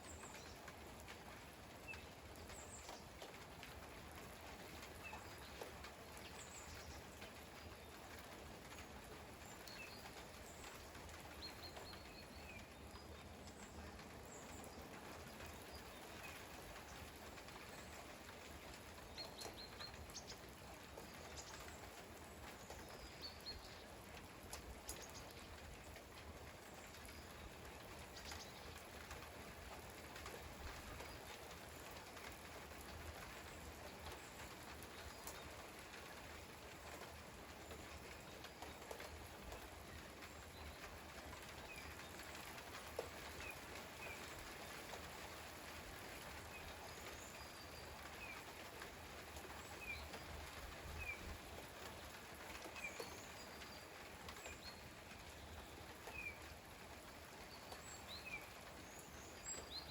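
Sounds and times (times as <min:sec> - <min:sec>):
rain pattering: 0:00.0 - 0:59.9
water drips: 0:00.0 - 0:59.9.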